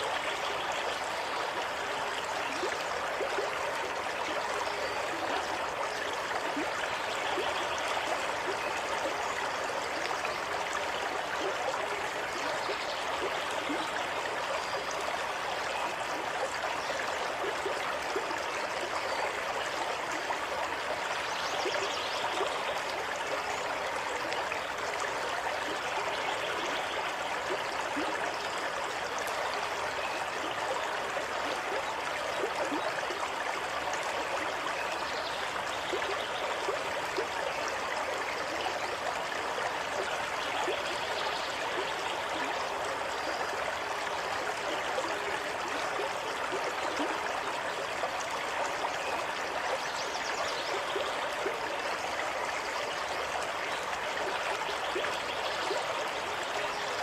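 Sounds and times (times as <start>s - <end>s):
stream water running: 0.0s - 57.0s.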